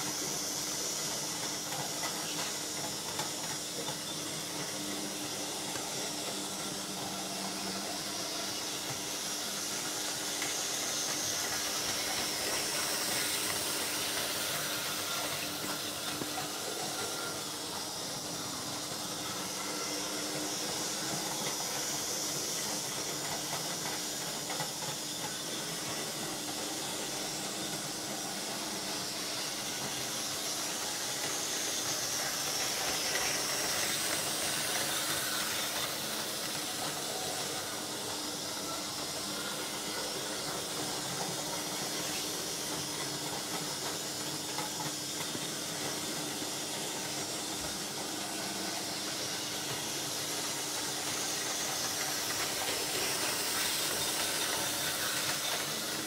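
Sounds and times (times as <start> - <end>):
model train whirring on track: 0.0 - 56.0.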